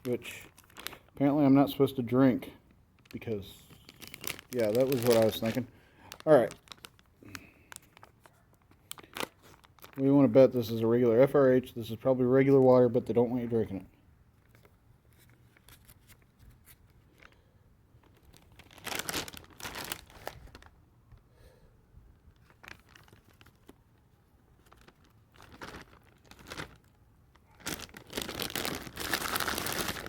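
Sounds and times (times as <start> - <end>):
packaging crinkling and tearing: 0.0 - 10.4, 14.4 - 20.8, 22.3 - 30.0.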